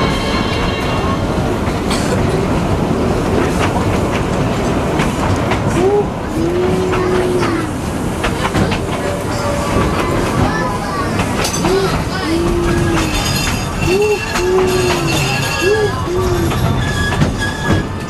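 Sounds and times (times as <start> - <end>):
rail joint clicks: 0.0 - 18.0
train wheels rumbling on rail: 0.0 - 18.0.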